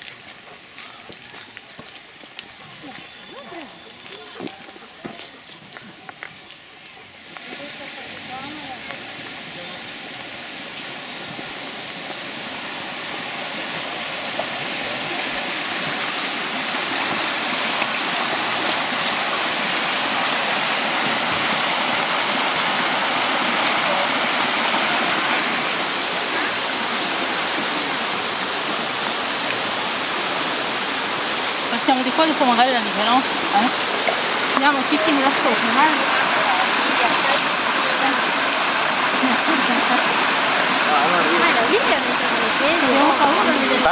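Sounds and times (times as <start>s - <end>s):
stream water running over rocks: 0.0s - 43.9s.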